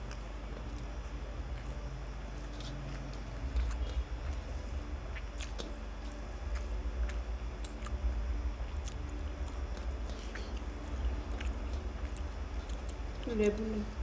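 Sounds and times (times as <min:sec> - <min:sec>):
people chewing: 0:00.0 - 0:14.0
steady low hum: 0:00.0 - 0:14.0.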